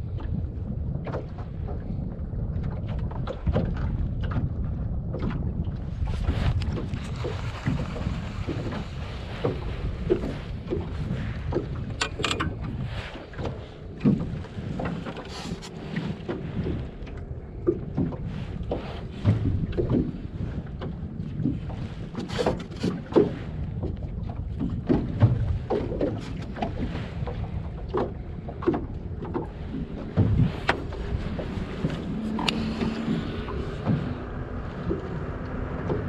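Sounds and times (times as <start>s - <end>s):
wind buffeting the microphone: 0.0s - 36.0s.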